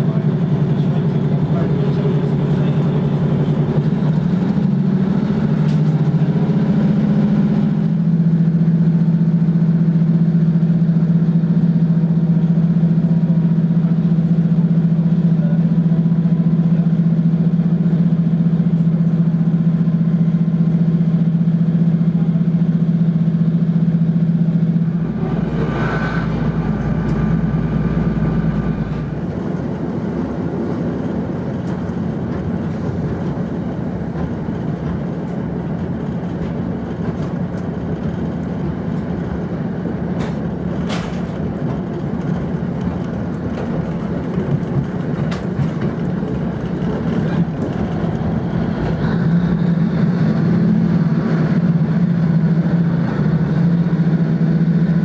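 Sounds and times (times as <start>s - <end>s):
train diesel engine running: 0.0s - 55.0s.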